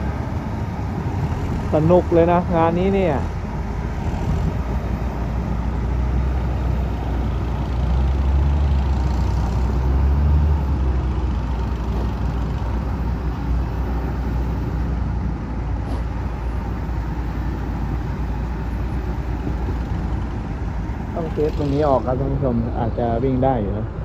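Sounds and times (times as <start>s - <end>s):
heavy diesel engines rumbling: 0.0s - 24.0s.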